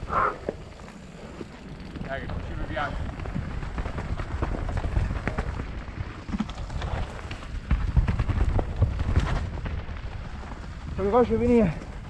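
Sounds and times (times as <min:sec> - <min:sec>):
heavy low rumble: 0:00.0 - 0:12.0
tyres on dirt trail: 0:00.0 - 0:12.0
bike rattling and knocking: 0:00.4 - 0:12.0.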